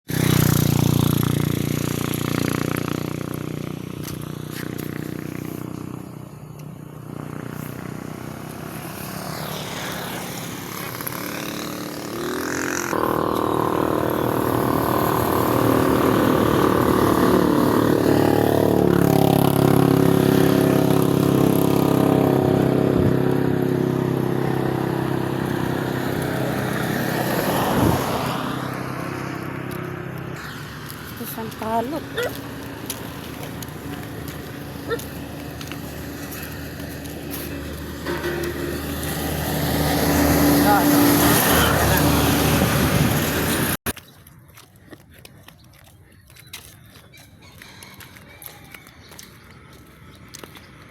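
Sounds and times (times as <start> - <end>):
vehicle engine running: 0.1 - 43.8.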